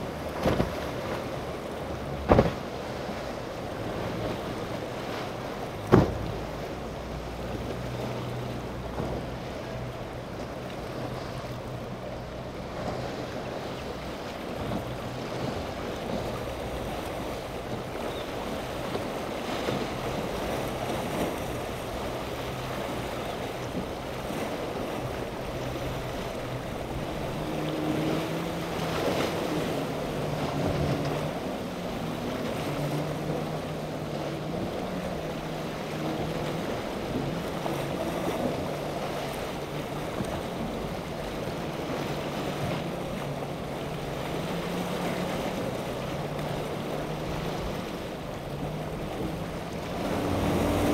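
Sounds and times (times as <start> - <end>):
outboard motors droning: 0.0 - 50.9
waves washing and breaking: 0.0 - 50.9
higher engine tone: 3.8 - 50.9.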